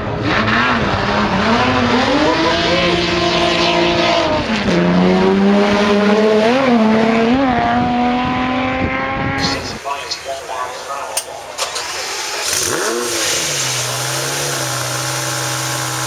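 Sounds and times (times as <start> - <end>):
racing car engine revving: 0.0 - 16.0.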